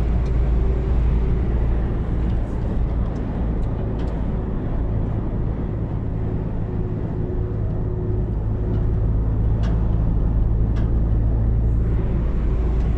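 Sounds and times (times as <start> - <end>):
diesel truck rumbling: 0.0 - 12.9
road and wind noise: 0.0 - 12.9.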